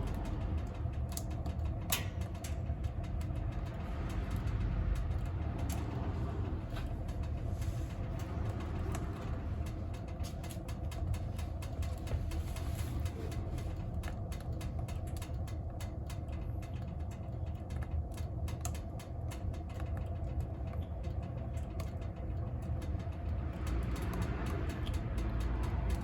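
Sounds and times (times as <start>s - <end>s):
wood fire crackling in stove: 0.0s - 26.0s.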